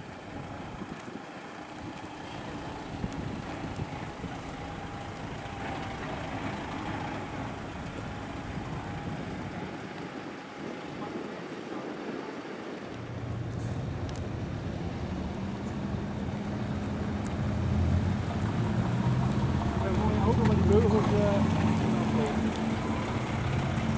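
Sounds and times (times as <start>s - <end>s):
traffic noise: 0.0s - 23.9s
truck engine approaching: 0.0s - 23.9s.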